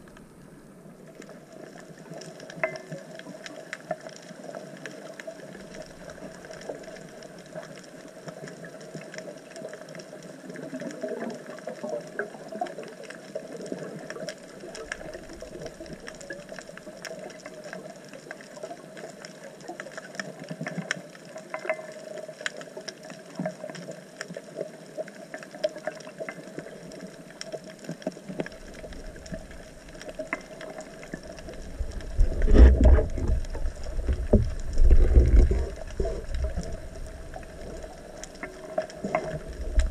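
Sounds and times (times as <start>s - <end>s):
small crackling clicks: 0.0s - 39.9s
underwater hum: 0.0s - 39.9s.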